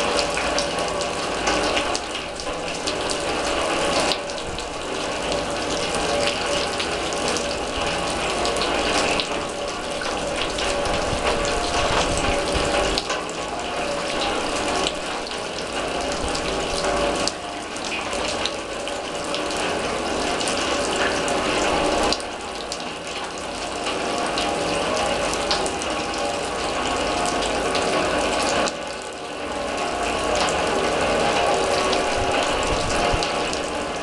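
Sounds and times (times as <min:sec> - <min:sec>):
rain on a steel drum: 0:00.0 - 0:34.0.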